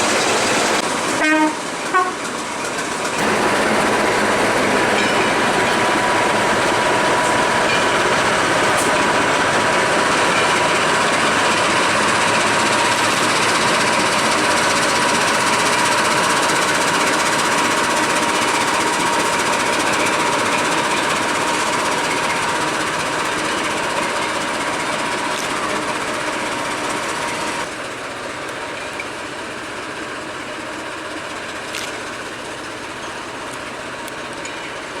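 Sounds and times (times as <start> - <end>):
train rattling rumble: 0.0 - 35.0.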